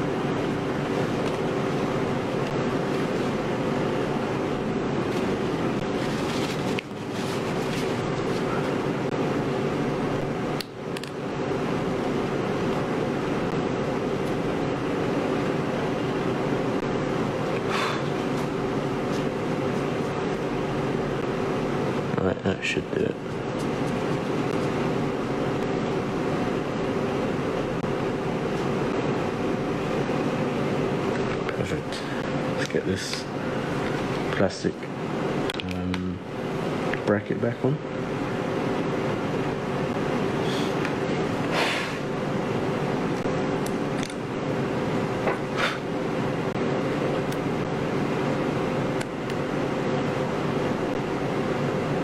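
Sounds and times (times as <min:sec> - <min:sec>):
room hum and hiss: 0:00.0 - 0:52.0.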